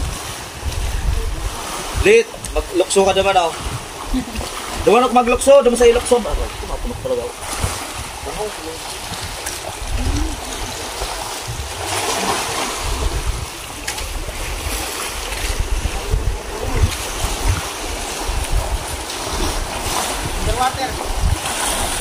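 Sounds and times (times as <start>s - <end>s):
sea water washing: 0.0s - 22.0s
wind buffeting microphone: 0.0s - 22.0s.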